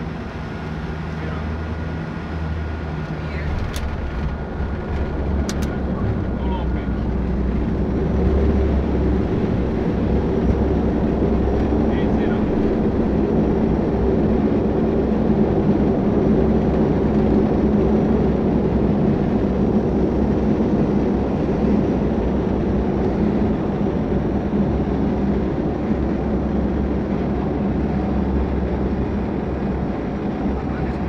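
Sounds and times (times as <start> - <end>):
aircraft engine and airflow drone: 0.0 - 31.0.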